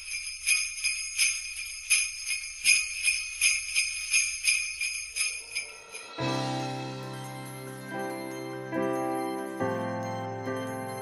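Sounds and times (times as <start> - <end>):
jingle bells shaken: 0.0 - 11.0.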